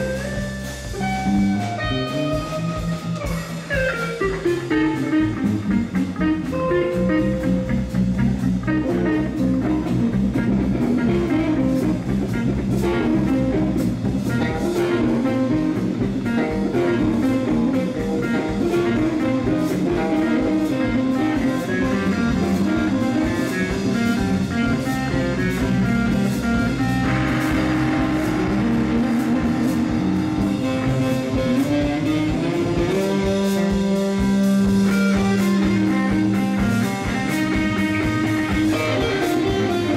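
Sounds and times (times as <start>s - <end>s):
drum kit steady beat: 0.0s - 39.9s
electric guitars playing: 0.0s - 39.9s.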